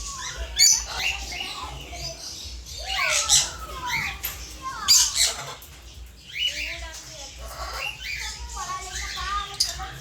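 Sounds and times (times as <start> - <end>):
parrots screeching and chattering: 0.0 - 10.0.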